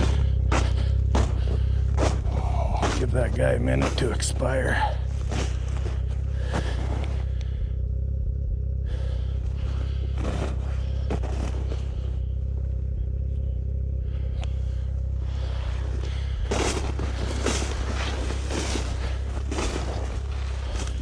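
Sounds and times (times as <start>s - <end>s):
snowmobile engine running: 0.0s - 21.0s.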